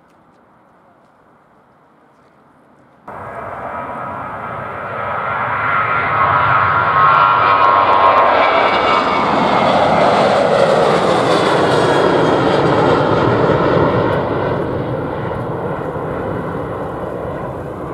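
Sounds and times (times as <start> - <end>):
jet engines roaring at takeoff: 3.1 - 17.9.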